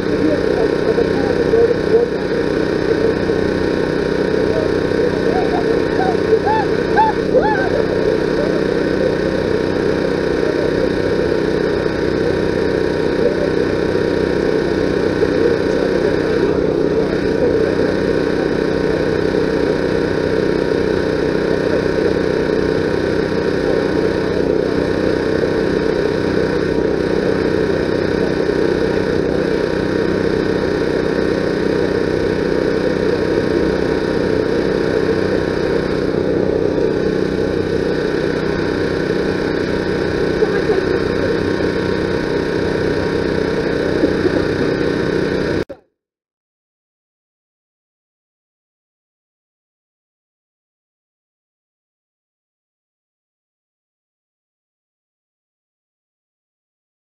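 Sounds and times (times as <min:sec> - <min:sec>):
engine-like drone: 0:00.0 - 0:45.8.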